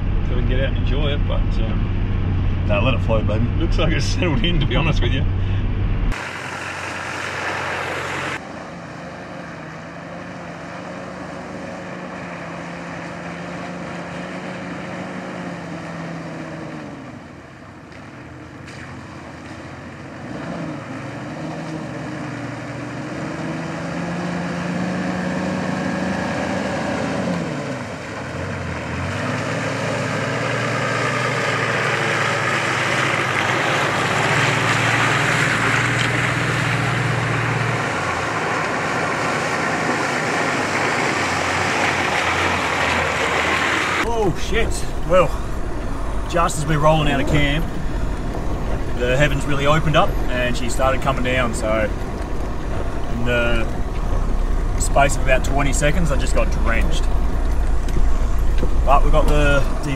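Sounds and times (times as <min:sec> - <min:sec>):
vehicle engine revving: 0:00.0 - 0:17.4, 0:18.0 - 0:59.9.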